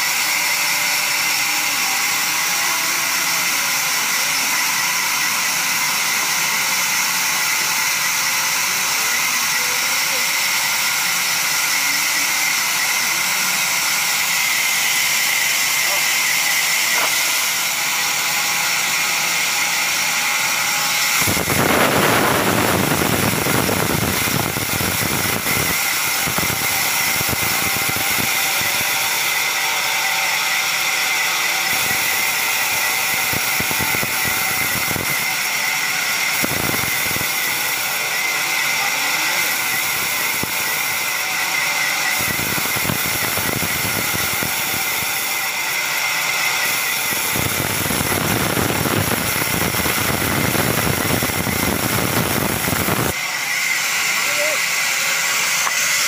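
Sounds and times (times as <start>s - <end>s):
band saw whining: 0.0s - 56.0s
saw blade cutting timber: 0.0s - 56.0s.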